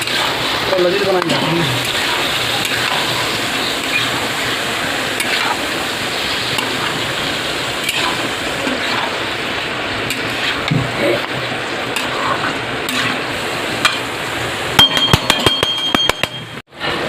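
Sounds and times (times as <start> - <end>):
chicken sizzling in a pan: 0.0 - 14.8.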